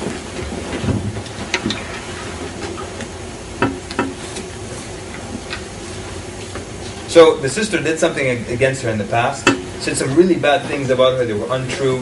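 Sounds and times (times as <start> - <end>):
steady hiss: 1.5 - 12.0.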